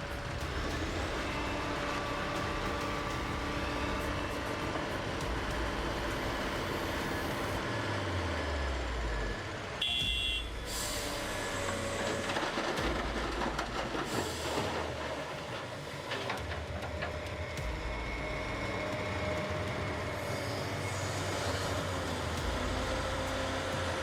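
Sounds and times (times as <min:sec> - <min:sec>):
heavy machinery engine running: 0:00.0 - 0:24.0.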